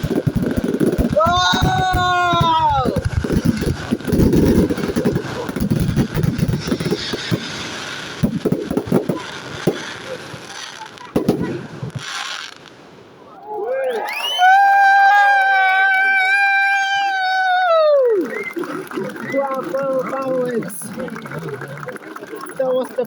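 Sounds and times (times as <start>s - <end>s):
fireworks bangs and crackling: 0.0s - 13.4s, 14.4s - 23.0s.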